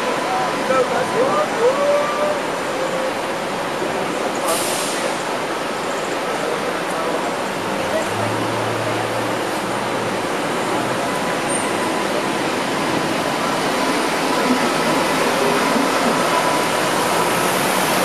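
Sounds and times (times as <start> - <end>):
street traffic noise: 0.0 - 18.0
streetcar rolling on rails: 0.0 - 18.0.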